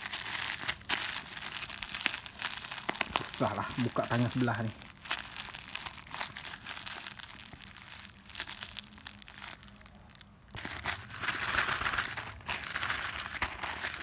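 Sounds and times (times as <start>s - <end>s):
plastic packet crinkling: 0.0s - 14.0s.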